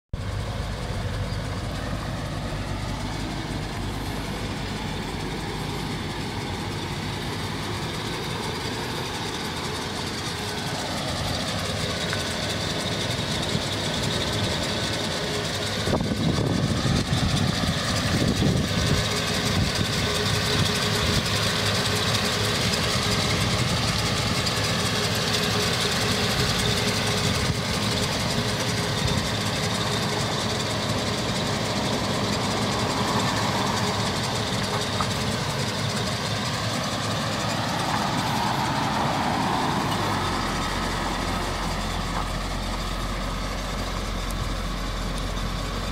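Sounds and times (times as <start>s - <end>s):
car engine idling: 0.1s - 45.9s.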